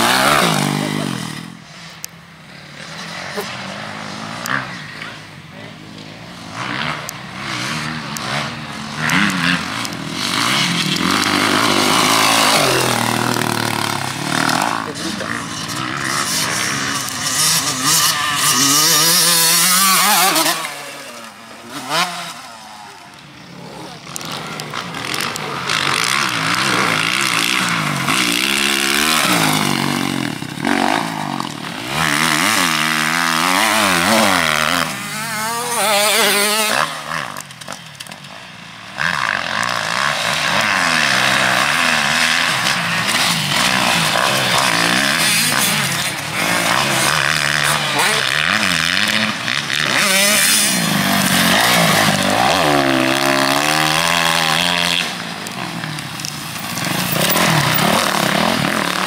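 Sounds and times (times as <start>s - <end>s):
motocross bike engine revving: 0.0s - 59.0s
noisy rush: 0.0s - 59.0s.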